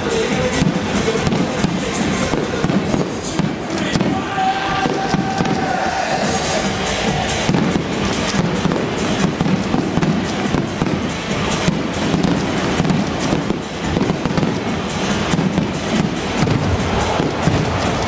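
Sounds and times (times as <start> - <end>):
fireworks cracking and banging: 0.0 - 18.0
loud music: 0.0 - 18.0.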